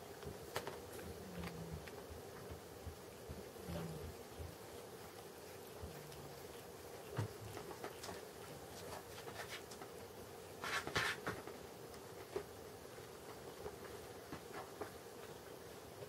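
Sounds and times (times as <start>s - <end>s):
faint steady hum: 0.0s - 16.0s
cat licking paw: 0.1s - 14.0s.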